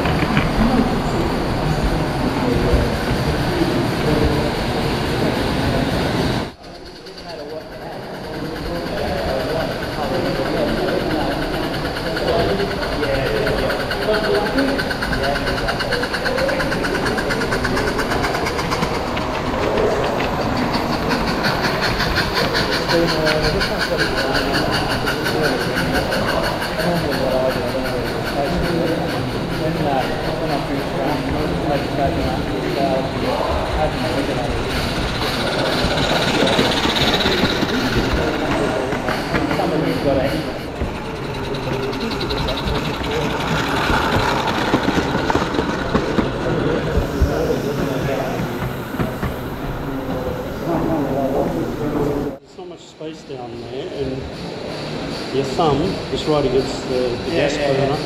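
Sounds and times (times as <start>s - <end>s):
model steam locomotive chuffing: 0.0s - 58.0s
voices: 0.0s - 58.0s.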